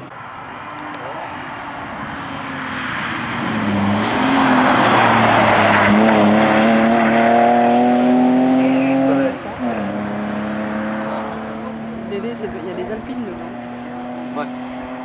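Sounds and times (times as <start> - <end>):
rally car engine: 0.0 - 15.0.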